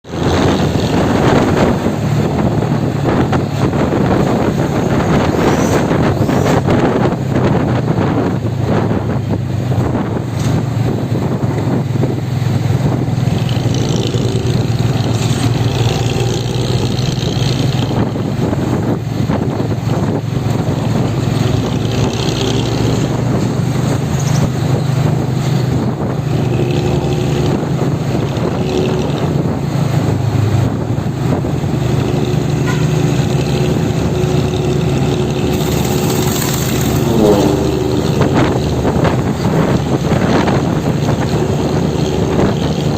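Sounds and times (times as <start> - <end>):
vehicle engine deep drone: 0.0 - 42.9.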